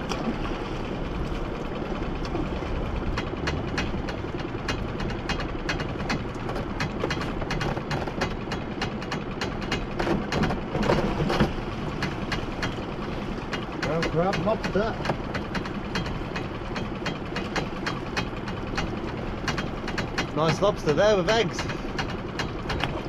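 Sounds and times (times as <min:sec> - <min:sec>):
boat engine idling: 0:00.0 - 0:23.0.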